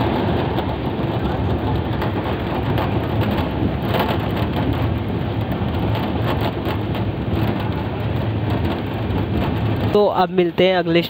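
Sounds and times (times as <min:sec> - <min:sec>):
train wheels on rails: 0:00.0 - 0:11.0
wind rush on microphone: 0:00.0 - 0:11.0.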